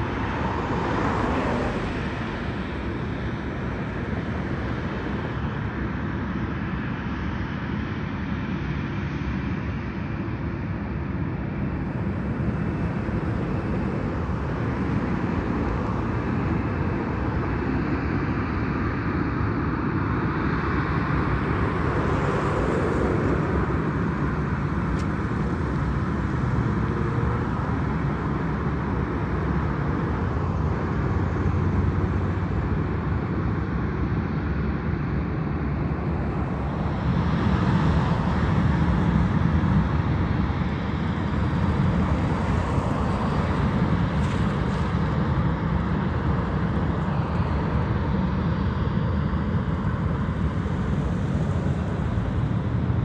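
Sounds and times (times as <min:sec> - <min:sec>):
jet engines rumbling: 0:00.0 - 0:53.0.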